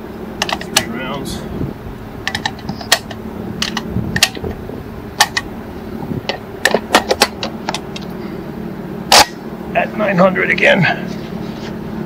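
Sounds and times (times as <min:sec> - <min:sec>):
large fan humming: 0:00.0 - 0:12.0.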